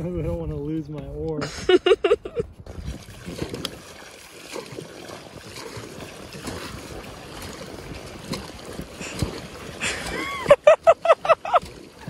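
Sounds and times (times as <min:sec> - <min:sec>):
oars dipping in water: 0:00.0 - 0:12.0
water splashing along hull: 0:00.0 - 0:12.0.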